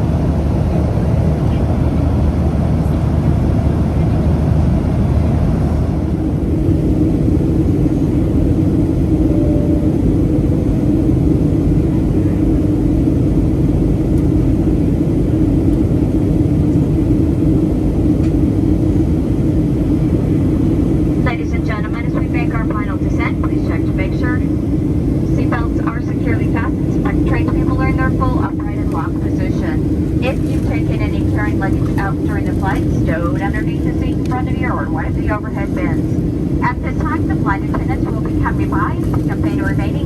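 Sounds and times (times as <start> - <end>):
airliner cabin engine and airflow: 0.0 - 40.0
low hum: 0.0 - 40.0.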